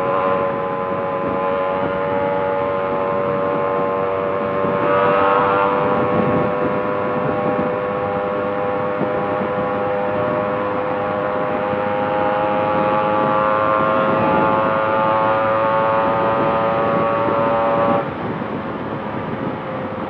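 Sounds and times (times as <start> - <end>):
two-stroke motorcycle engine cruising: 0.0 - 20.0.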